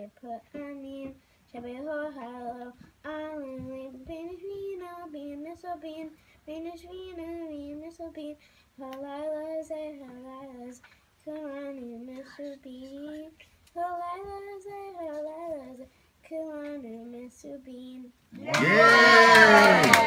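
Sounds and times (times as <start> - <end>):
girl singing: 0.0 - 20.0.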